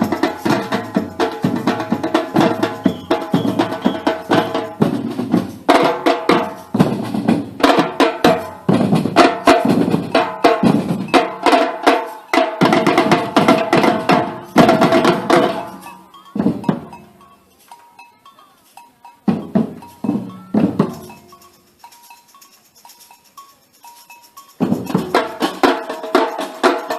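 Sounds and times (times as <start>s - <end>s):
drum and percussion music: 0.0s - 26.9s.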